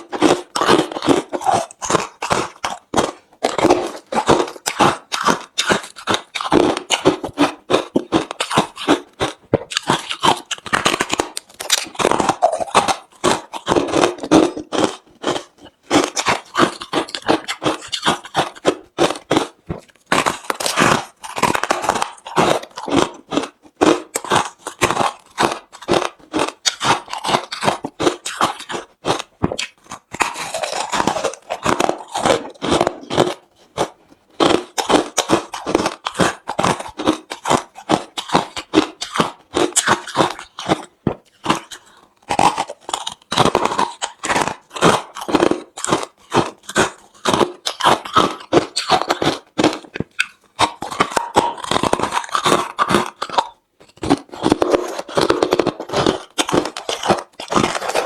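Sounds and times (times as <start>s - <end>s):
ice being chewed crunching: 0.0s - 58.0s.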